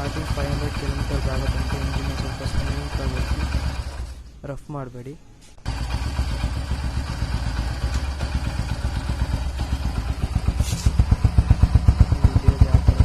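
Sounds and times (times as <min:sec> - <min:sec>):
motorcycle engine idling: 0:00.0 - 0:04.2, 0:05.6 - 0:13.0.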